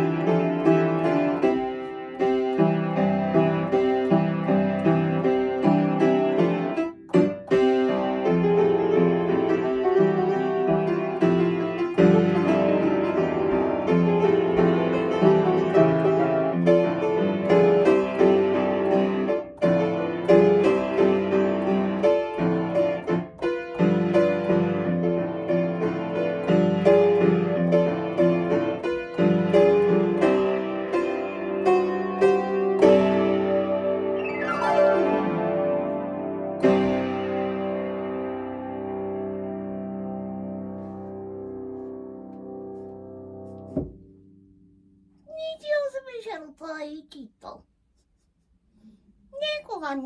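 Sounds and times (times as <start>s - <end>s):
solo piano: 0.0s - 46.2s.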